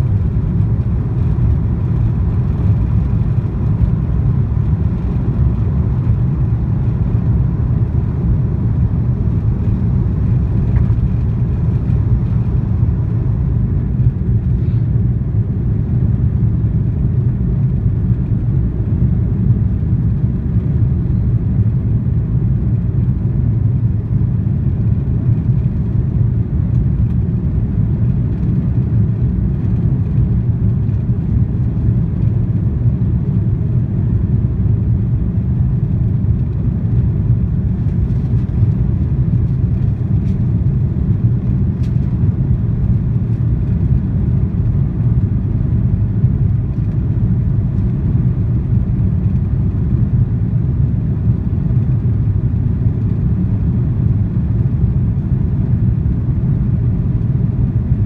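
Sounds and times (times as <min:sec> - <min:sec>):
jet engine low rumble: 0:00.0 - 0:58.0.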